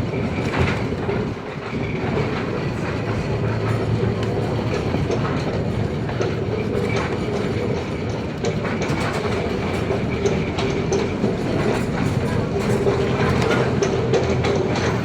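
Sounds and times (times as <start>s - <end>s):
funicular car rumbling on rails: 0.0s - 15.0s.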